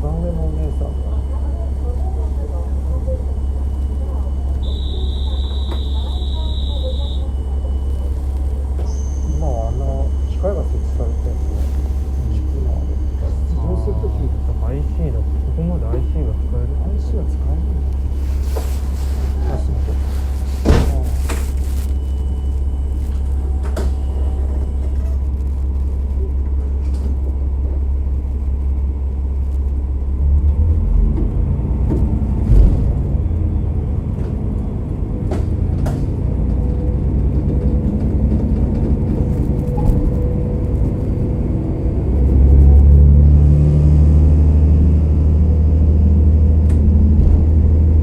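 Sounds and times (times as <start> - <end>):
diesel railcar engine drone: 0.0 - 48.0.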